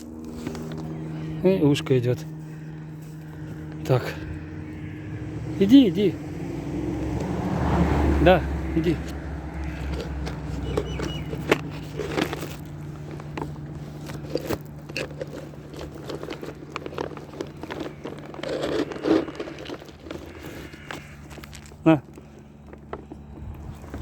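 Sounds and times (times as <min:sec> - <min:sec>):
cats crunching dry kibble: 0:00.0 - 0:06.1, 0:07.0 - 0:24.0
low hum: 0:00.0 - 0:24.0.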